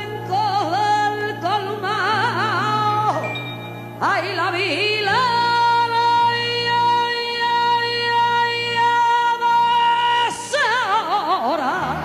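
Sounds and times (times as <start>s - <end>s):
woman singing: 0.0s - 3.3s, 4.0s - 12.0s.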